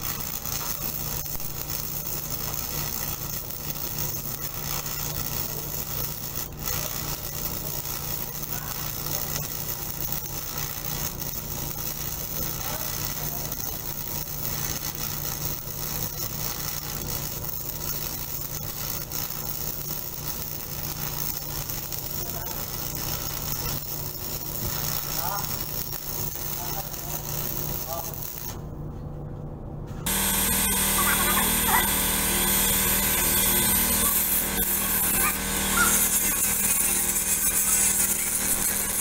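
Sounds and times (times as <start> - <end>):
welding arc crackling hiss: 0.0 - 28.6, 30.0 - 39.0
low machine hum: 0.0 - 39.0.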